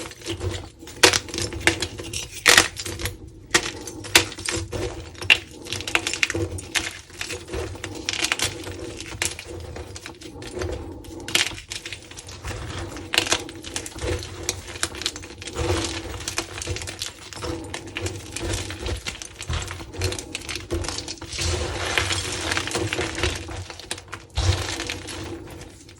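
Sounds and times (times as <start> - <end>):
chalk crunching and crackling: 0.0 - 25.9.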